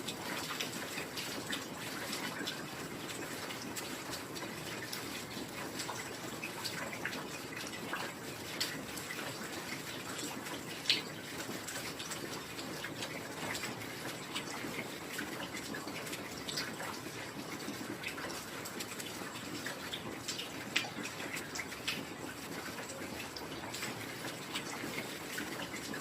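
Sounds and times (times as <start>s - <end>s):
rain falling with drips: 0.0s - 26.0s.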